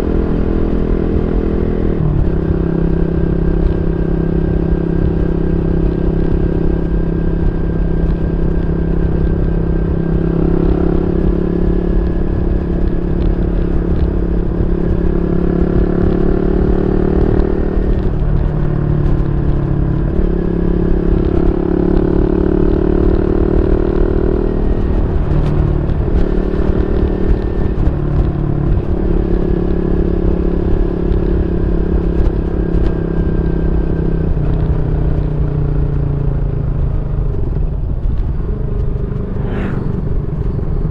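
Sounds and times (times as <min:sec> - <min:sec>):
motorcycle engine revving: 0:00.0 - 0:36.0, 0:36.7 - 0:40.9.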